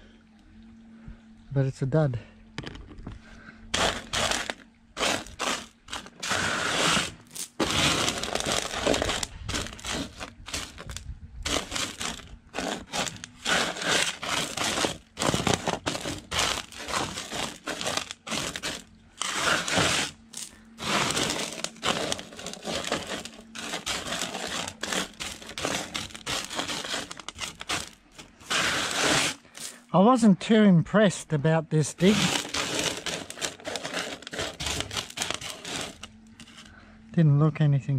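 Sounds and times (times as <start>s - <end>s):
pebbles rattling on metal table: 3.8s - 29.8s, 32.0s - 36.7s.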